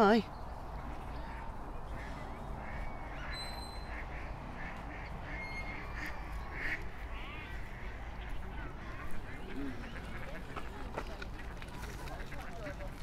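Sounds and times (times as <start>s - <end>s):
ducks quacking: 1.1s - 13.0s.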